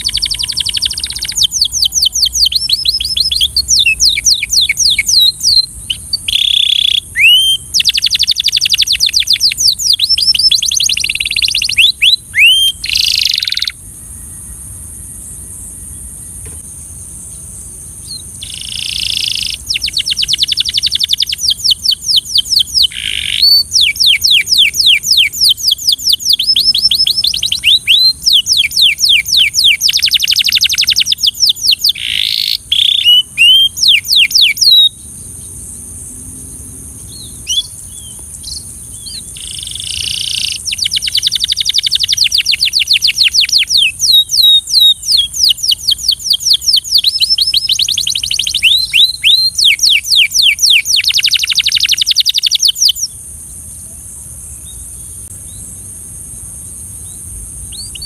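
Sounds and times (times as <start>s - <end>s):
canary singing trills: 0.0s - 14.6s, 17.3s - 35.6s, 36.9s - 53.2s, 57.0s - 58.0s.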